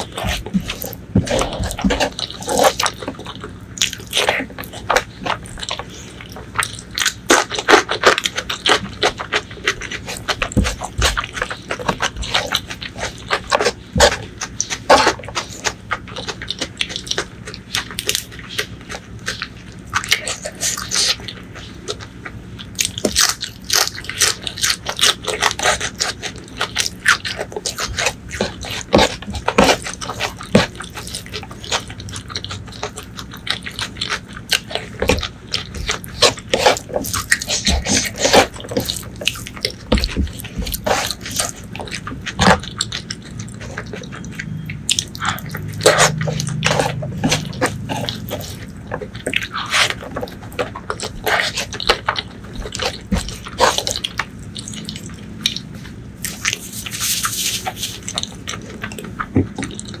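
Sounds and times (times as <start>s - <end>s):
wet chewing: 0.0s - 60.0s.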